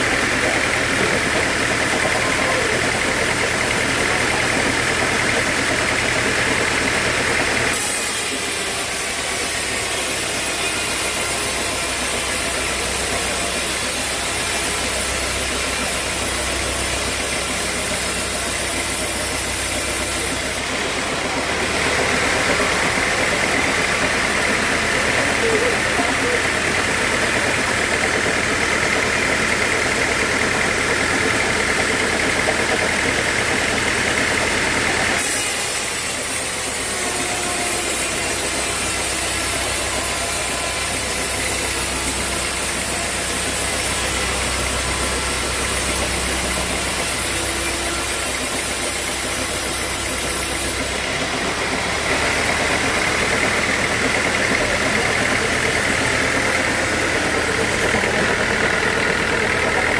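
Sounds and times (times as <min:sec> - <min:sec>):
saw blade cutting log: 0:00.0 - 0:59.9
sawmill saw running: 0:00.0 - 0:59.9.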